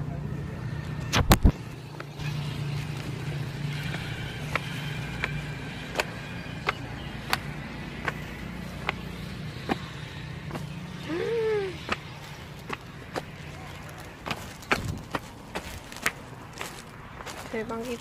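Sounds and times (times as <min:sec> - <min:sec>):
footsteps on brick paving: 0:01.3 - 0:18.0.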